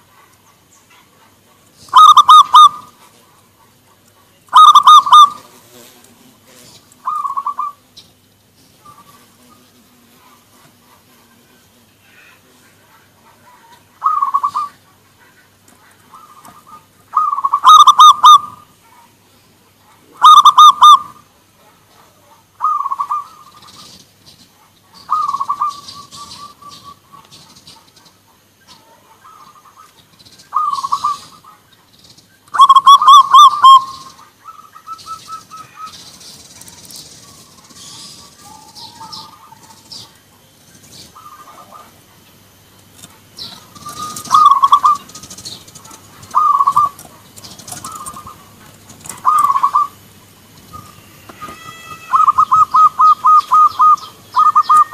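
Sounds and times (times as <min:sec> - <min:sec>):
doves cooing: 0:00.0 - 0:31.8, 0:32.5 - 0:54.9.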